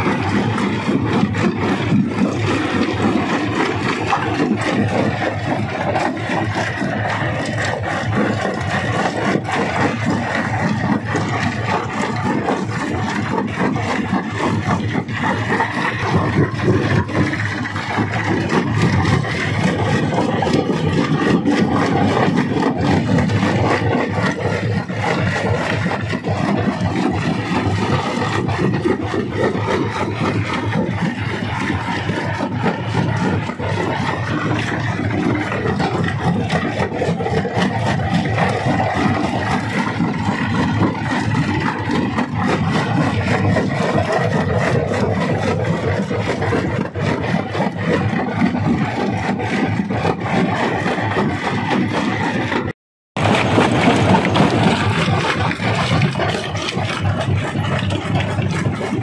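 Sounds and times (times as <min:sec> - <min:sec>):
rock crusher grinding: 0:00.0 - 0:59.0.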